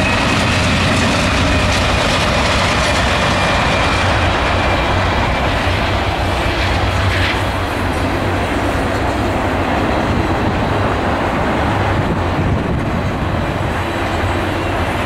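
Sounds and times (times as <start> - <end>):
diesel locomotive engine hum: 0.0 - 15.0
train wheels rolling on rails: 0.0 - 15.0.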